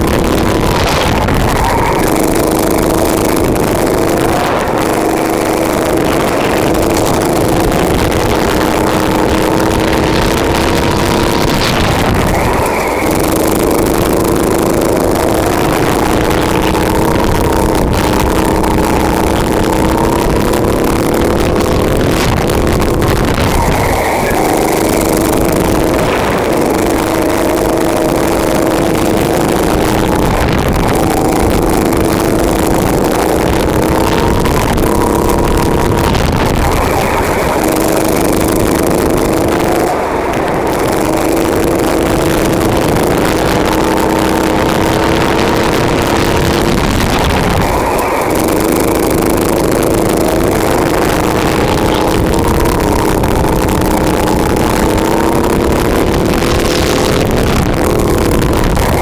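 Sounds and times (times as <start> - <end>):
go-kart engine at high revs: 0.0 - 59.0.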